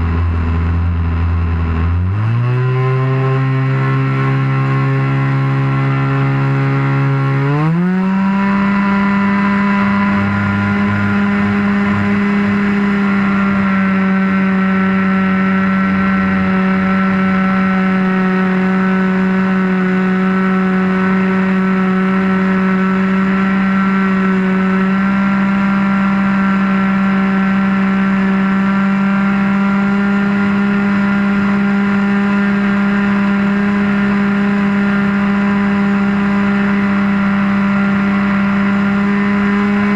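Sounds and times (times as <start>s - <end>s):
model airplane motor running: 0.0s - 39.9s.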